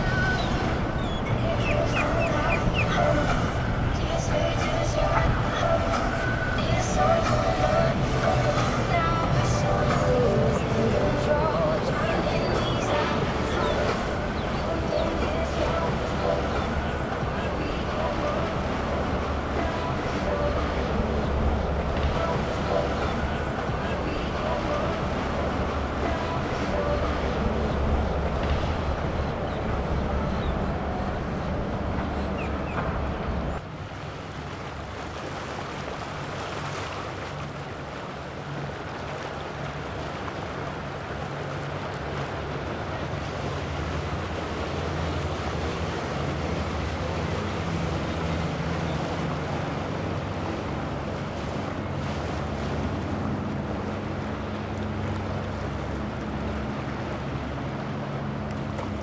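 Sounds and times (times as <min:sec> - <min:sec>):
boat engines rumbling: 0:00.0 - 0:59.0
outboard motors humming: 0:00.0 - 0:59.0
water rushing along hull: 0:00.0 - 0:59.0.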